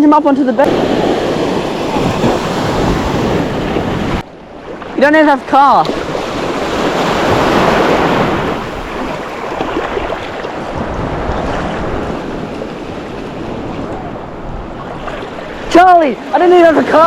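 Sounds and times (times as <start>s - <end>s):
wind on microphone: 0.6s - 5.0s, 5.8s - 17.0s
sea water washing: 0.6s - 17.0s.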